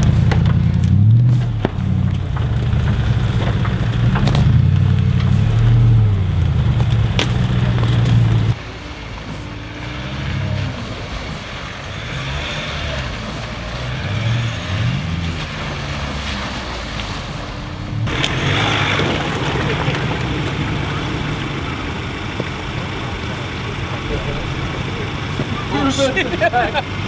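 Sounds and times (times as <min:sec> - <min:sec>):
engine revving up and down: 0:00.0 - 0:27.0
engine running loud: 0:00.0 - 0:27.0.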